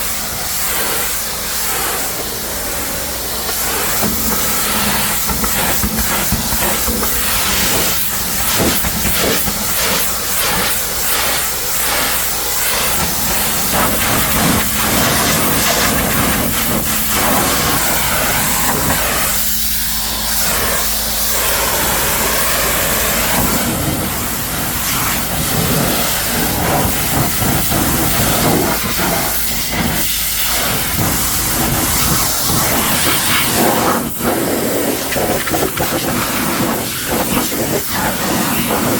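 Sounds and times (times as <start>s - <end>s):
pressure washer spraying vehicle: 0.0s - 38.9s.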